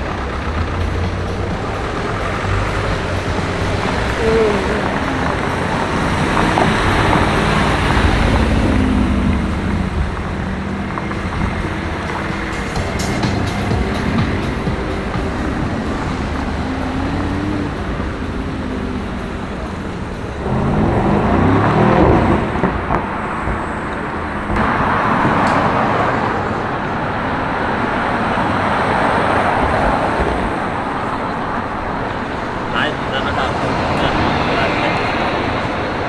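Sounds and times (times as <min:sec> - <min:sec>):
car accelerating past: 0:00.0 - 0:36.0
cars passing: 0:00.0 - 0:36.0.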